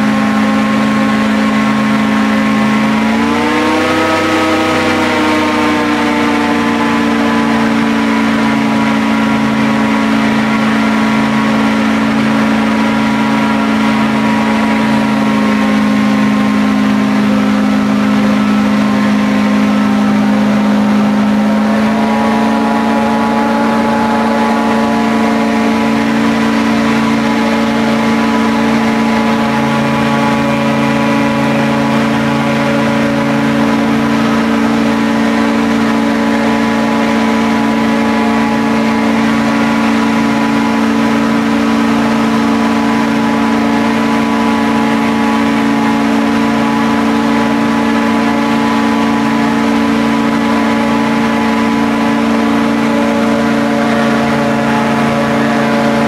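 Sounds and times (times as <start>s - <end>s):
airboat engine drone: 0.0s - 56.0s.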